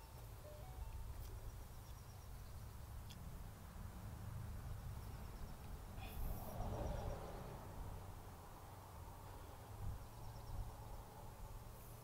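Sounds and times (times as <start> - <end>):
wind rumble on microphone: 1.0 - 11.8.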